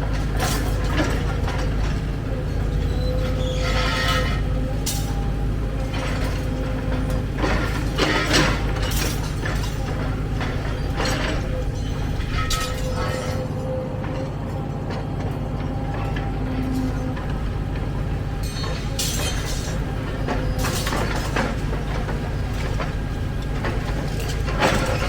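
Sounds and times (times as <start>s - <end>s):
diesel engine rumble: 0.0s - 25.0s
metallic clanks and rattles: 0.2s - 14.2s, 15.9s - 25.0s.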